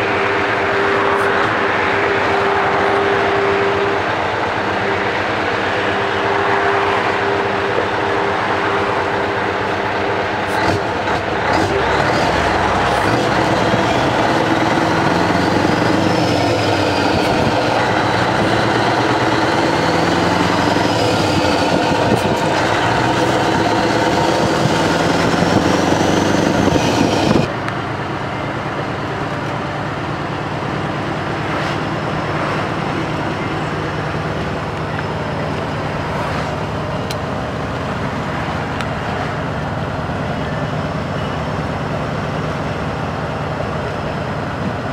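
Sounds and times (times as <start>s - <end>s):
diesel truck engine pulling: 0.0s - 44.9s
wind and tyre noise: 0.0s - 44.9s.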